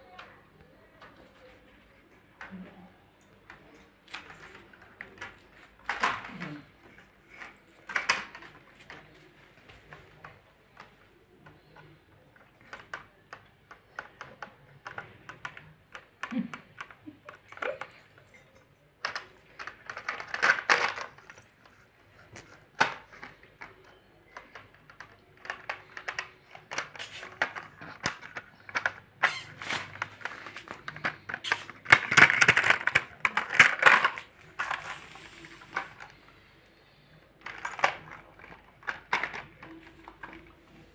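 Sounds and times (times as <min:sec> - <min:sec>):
toys knocking and clattering: 0:03.4 - 0:36.3, 0:37.4 - 0:40.6.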